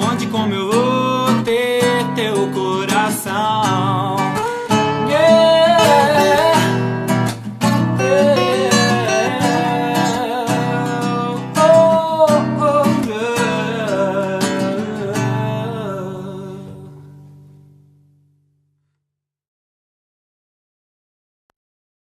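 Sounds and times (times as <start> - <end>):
acoustic guitar song: 0.0 - 19.0.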